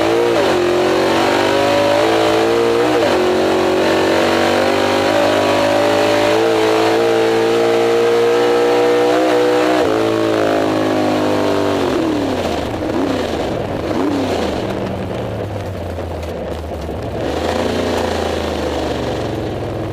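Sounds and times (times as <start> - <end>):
drag car engine at high revs: 0.0 - 15.1, 16.9 - 19.9.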